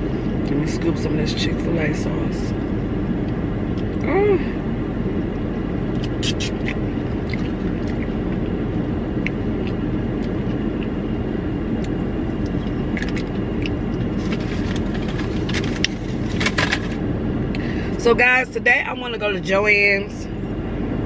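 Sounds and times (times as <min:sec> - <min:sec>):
car engine and blower hum: 0:00.0 - 0:21.0.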